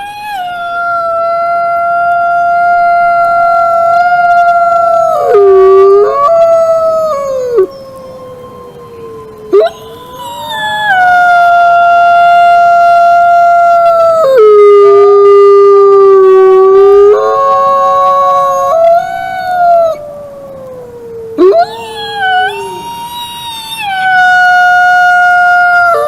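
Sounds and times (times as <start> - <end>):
wolf howling: 0.0 - 26.0.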